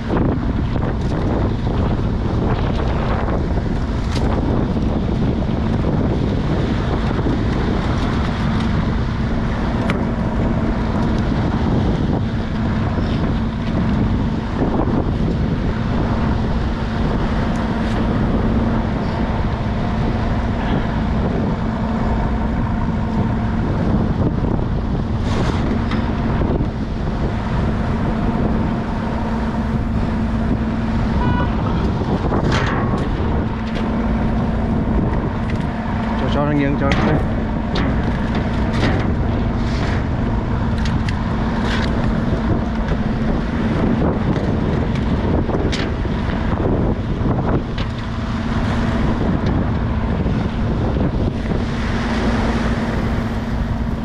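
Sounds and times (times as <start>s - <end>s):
boat engine humming: 0.0s - 54.0s
wind buffeting microphone: 0.0s - 54.0s.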